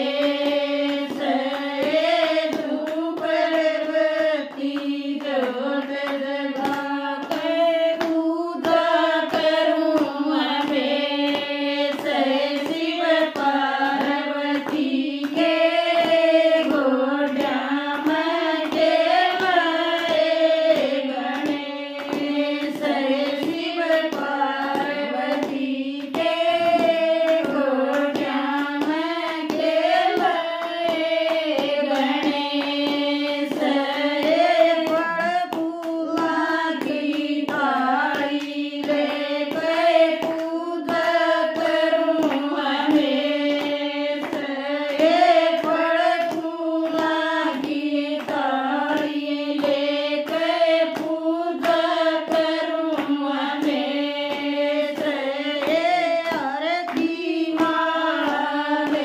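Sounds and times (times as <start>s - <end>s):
hand clapping beat: 0.0s - 59.0s
women singing together: 0.0s - 59.0s.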